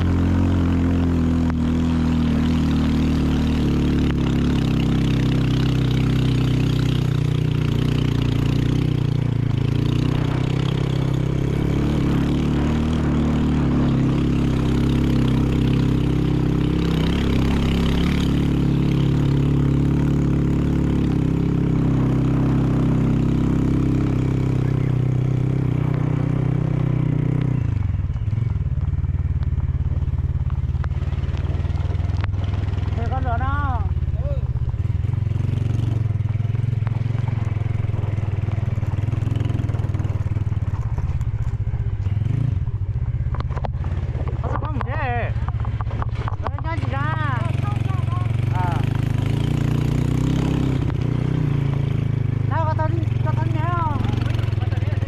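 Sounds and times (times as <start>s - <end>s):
motorbike engine running: 0.0s - 55.0s.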